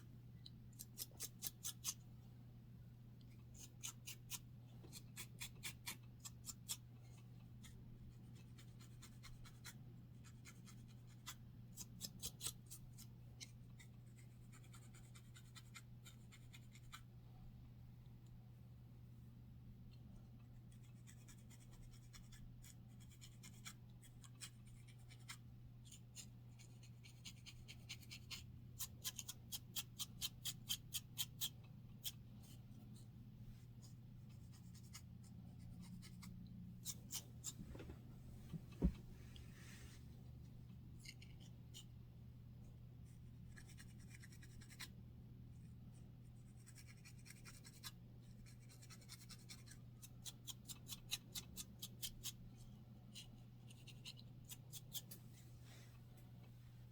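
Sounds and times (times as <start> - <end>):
faint steady hum: 0.0 - 56.9.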